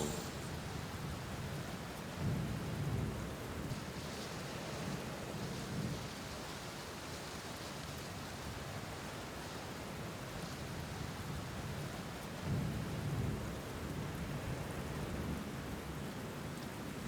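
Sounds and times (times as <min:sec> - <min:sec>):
steady rain: 0:01.9 - 0:17.0.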